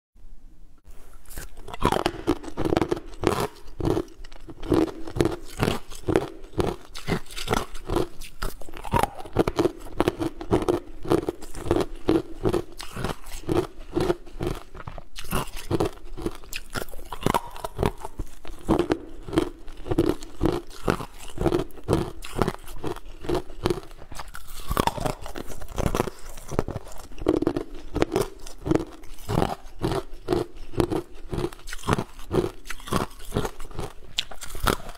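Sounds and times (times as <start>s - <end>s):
ice cubes crunched by teeth: 1.3s - 34.9s.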